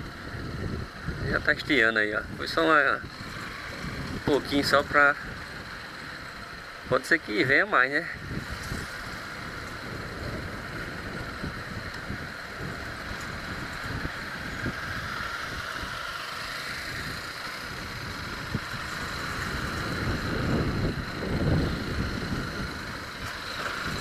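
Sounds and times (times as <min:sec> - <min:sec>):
wind buffeting microphone: 0:00.0 - 0:06.9, 0:08.2 - 0:16.1, 0:16.7 - 0:24.0
motorcycle engine running: 0:00.0 - 0:24.0.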